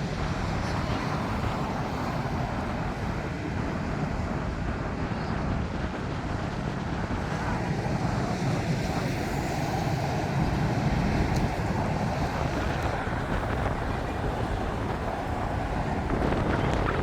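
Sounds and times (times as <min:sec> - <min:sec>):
jet aircraft rumble: 0:00.0 - 0:17.0
road traffic noise: 0:00.0 - 0:17.0
wind buffeting microphone: 0:00.0 - 0:17.0.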